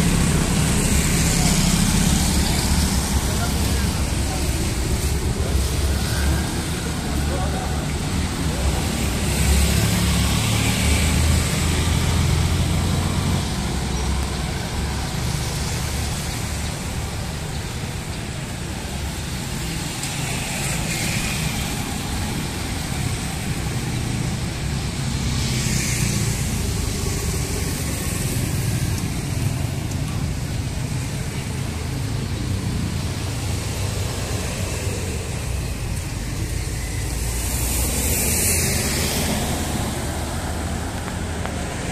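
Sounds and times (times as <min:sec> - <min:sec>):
traffic rumble: 0:00.0 - 0:41.9
vehicles passing close by: 0:00.0 - 0:41.9.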